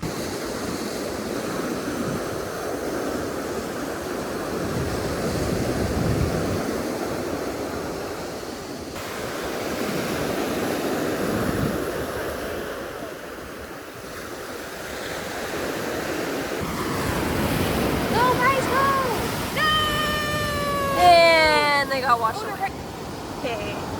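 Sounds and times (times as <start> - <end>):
waves breaking on beach: 0.0 - 23.9
wind buffeting microphone: 0.0 - 23.9.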